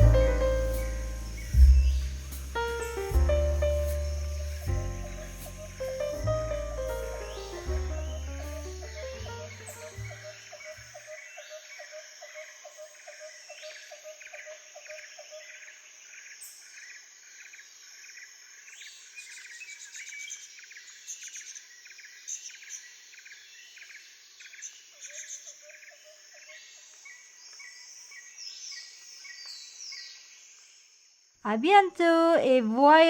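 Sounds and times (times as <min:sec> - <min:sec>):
high insect hum: 0:00.0 - 0:33.0.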